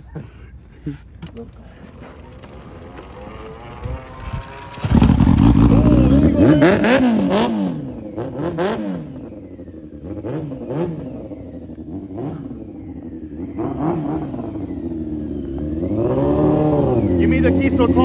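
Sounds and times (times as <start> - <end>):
motorcycle engine revving: 1.2 - 18.0.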